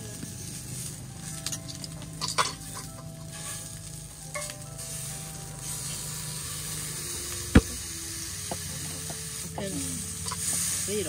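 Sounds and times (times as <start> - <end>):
steak sizzling in a frying pan: 0.0 - 11.0.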